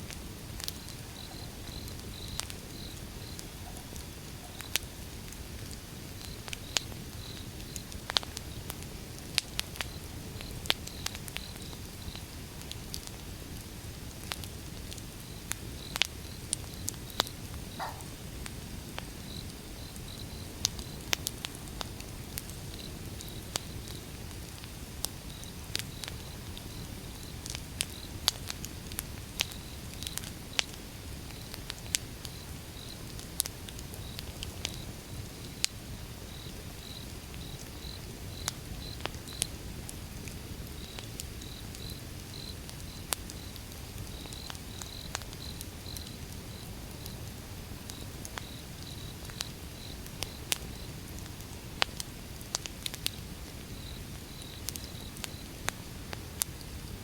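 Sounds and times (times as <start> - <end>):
burning logs popping and crackling: 0.0 - 57.0
low rumble of flames: 0.0 - 57.0.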